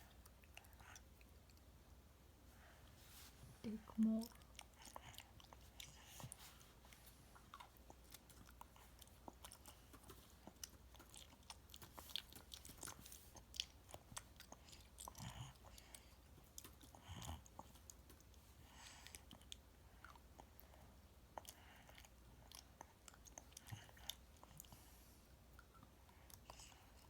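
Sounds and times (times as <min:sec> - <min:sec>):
child chewing food: 0:00.0 - 0:27.0.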